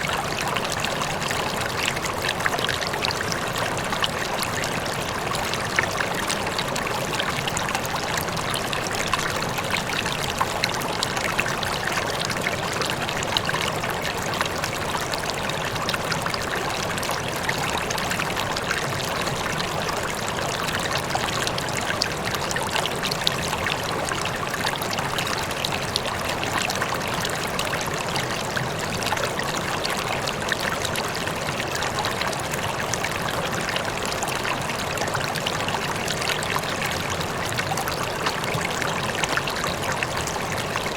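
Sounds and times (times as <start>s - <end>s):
water rippling and trickling: 0.0s - 40.9s.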